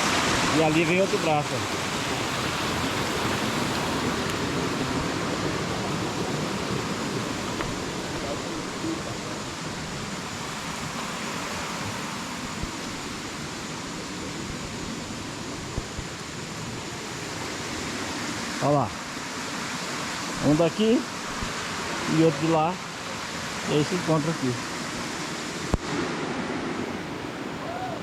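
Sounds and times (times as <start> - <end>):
stream rushing over rapids: 0.0 - 28.0.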